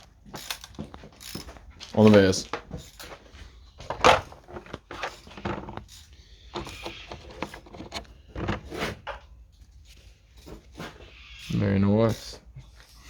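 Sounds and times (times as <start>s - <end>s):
hand tools and metal parts clinking: 0.0s - 13.0s.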